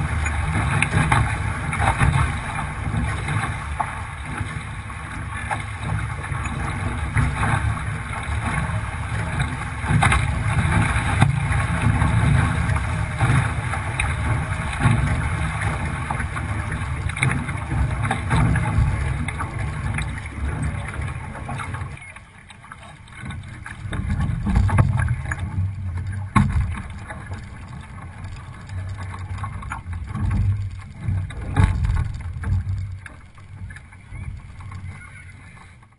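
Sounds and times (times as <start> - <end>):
water rushing along a hull: 0.0 - 35.9
waves knocking against hull: 0.0 - 35.9.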